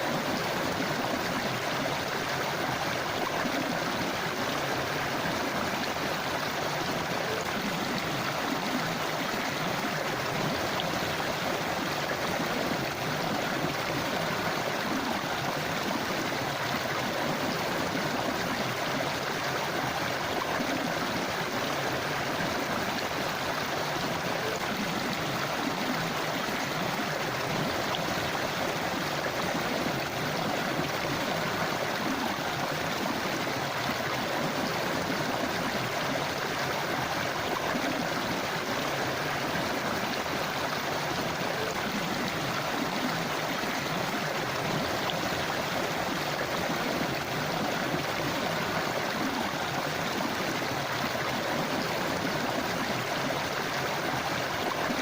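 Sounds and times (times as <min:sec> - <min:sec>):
river water rushing and babbling: 0:00.0 - 0:55.0.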